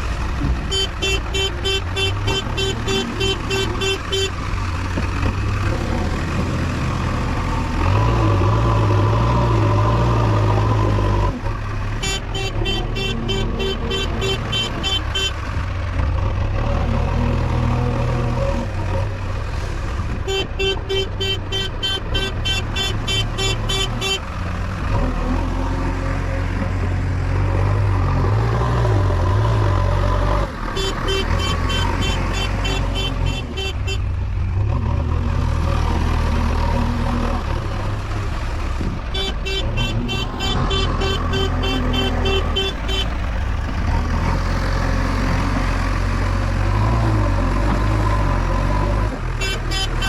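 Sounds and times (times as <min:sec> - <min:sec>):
diesel engine revving under load: 0:00.0 - 0:50.0.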